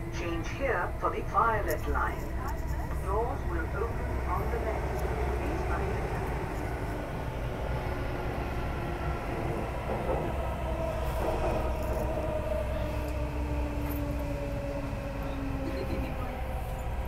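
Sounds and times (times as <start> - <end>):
train low rumble: 0.0 - 17.0
train motor whine: 1.6 - 17.0.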